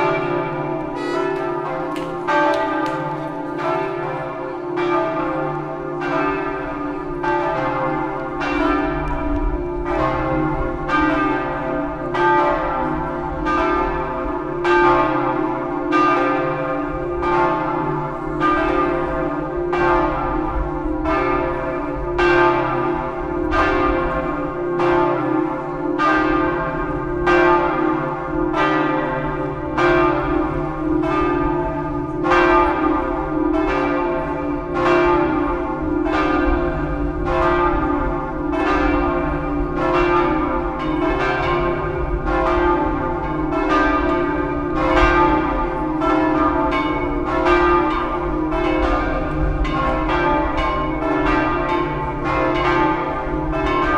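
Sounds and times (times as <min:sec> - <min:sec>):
church bell striking: 0:00.0 - 0:53.9
hum of large bells: 0:00.0 - 0:53.9.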